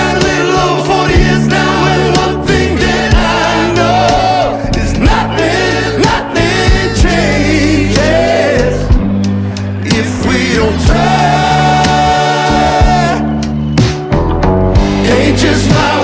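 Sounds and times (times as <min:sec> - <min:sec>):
song with choir-like vocals: 0:00.0 - 0:14.2, 0:14.8 - 0:16.0
low drum beat: 0:00.0 - 0:16.0.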